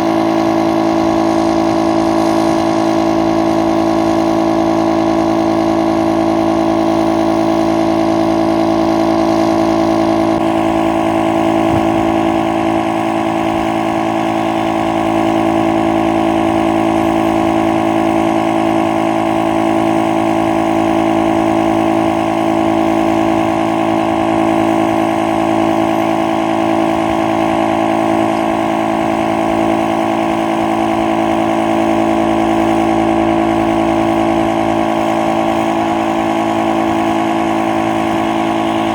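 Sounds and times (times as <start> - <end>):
motor running steadily: 0.0 - 38.9.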